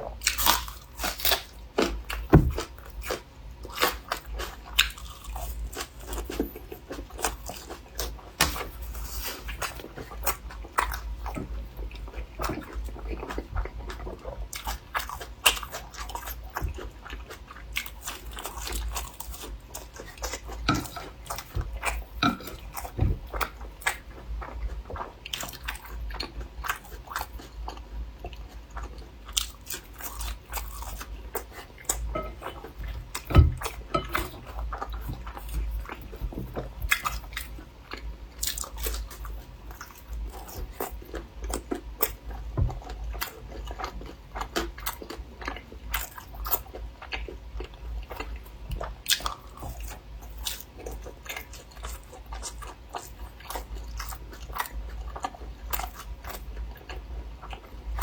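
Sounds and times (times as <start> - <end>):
mouth chewing and crunching: 0.1 - 58.0.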